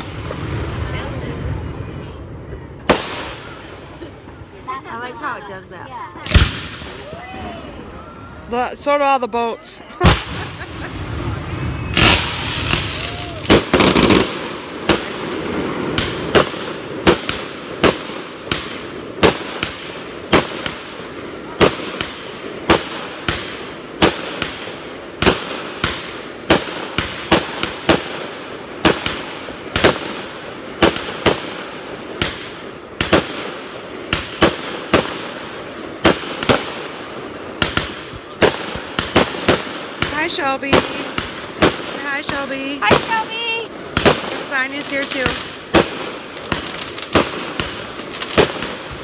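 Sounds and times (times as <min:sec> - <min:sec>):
fireworks bangs: 0:00.0 - 0:49.0.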